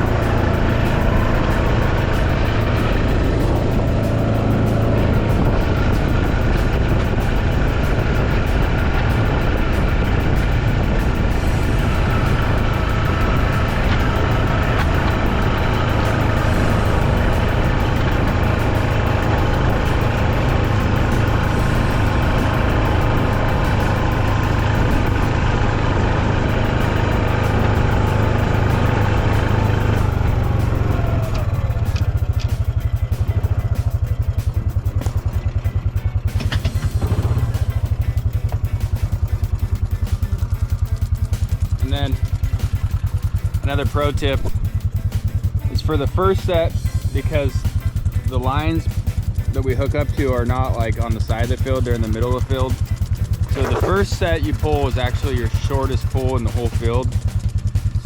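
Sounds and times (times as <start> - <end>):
farm vehicle engine running: 0.0 - 58.0.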